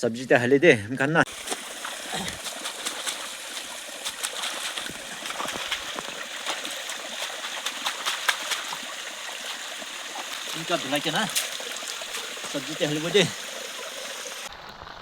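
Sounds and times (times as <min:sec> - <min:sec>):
small splashes and clicks: 0:01.3 - 0:14.5
river water trickling: 0:01.3 - 0:15.0.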